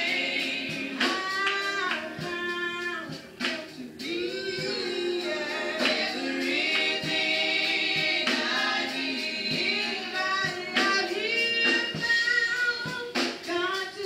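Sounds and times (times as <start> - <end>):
vocal group singing in harmony: 0.0 - 14.0.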